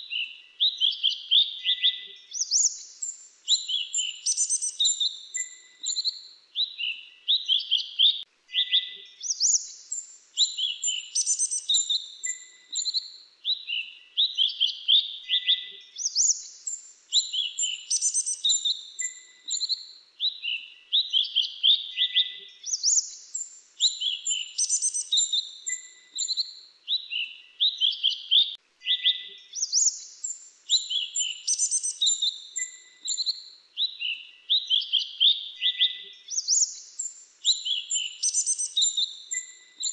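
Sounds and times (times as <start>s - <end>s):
songbird singing chirps and trills: 0.0s - 39.9s.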